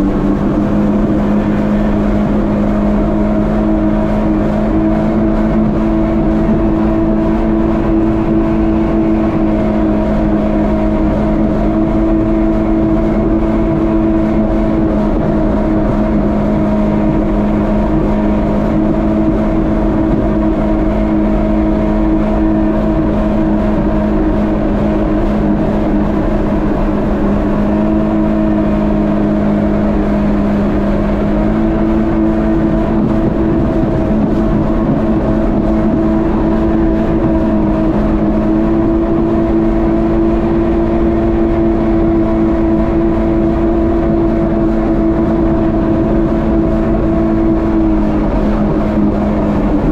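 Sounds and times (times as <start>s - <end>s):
jet ski engine running: 0.0s - 49.9s
wind noise: 0.0s - 49.9s.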